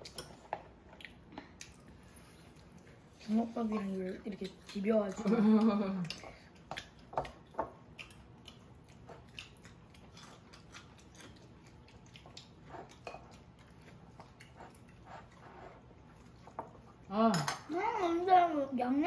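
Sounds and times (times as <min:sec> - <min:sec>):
people chewing food: 0:00.0 - 0:18.5.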